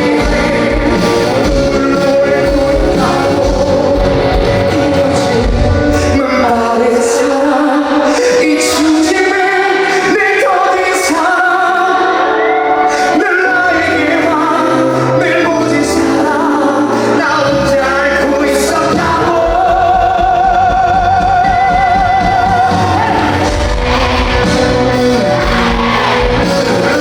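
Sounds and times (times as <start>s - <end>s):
live pop-rock band: 0.0s - 27.0s
person singing: 0.0s - 27.0s.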